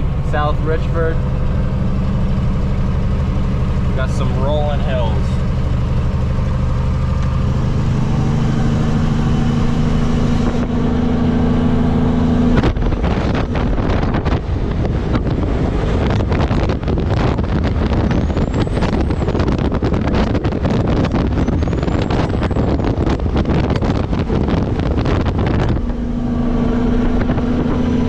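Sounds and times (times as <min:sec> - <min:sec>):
diesel truck engine hum: 0:00.0 - 0:28.0
road noise: 0:00.0 - 0:28.0
wind buffeting microphone: 0:00.0 - 0:28.0.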